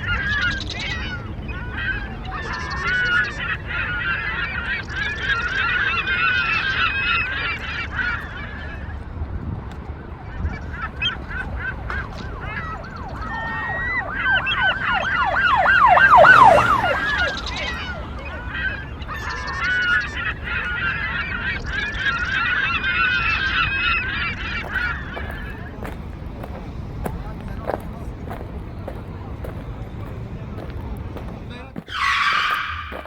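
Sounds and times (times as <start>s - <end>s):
flock of birds calling: 0.0s - 33.0s.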